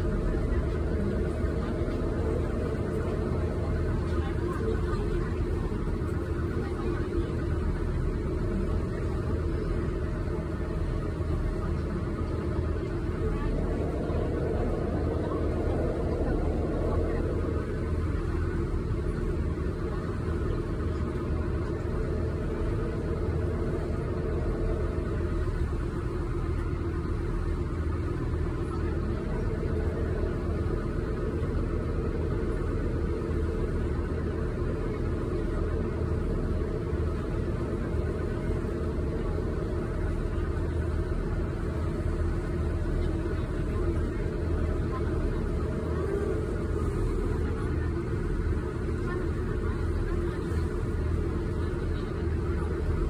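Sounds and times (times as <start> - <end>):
boat engine low rumble: 0.0 - 53.0.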